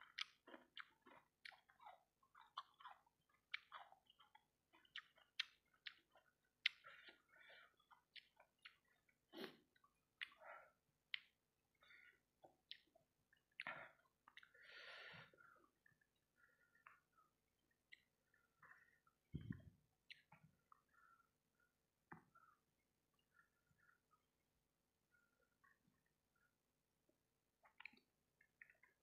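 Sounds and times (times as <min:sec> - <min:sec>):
person chewing wetly: 0:00.0 - 0:24.3, 0:25.1 - 0:29.0.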